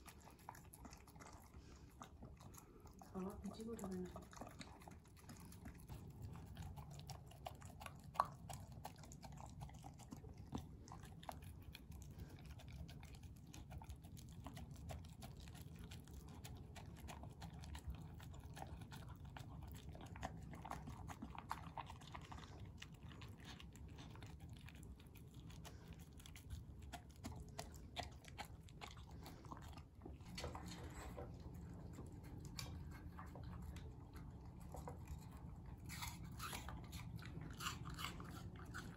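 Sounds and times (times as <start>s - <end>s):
dog licking and chewing: 0.0s - 38.9s.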